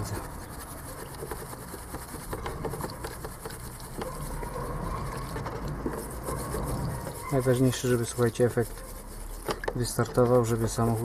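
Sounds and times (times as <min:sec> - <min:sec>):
brush scrubbing in soapy water: 0:00.0 - 0:11.0.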